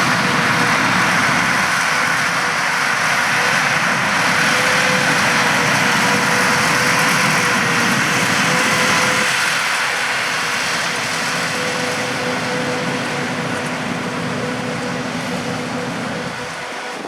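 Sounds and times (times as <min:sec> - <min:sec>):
harvesting machinery running: 0:00.0 - 0:17.0.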